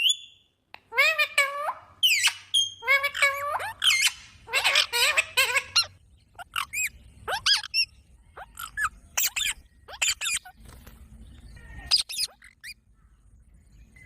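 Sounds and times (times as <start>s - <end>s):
parrot calling: 0.0s - 10.6s, 11.6s - 12.8s.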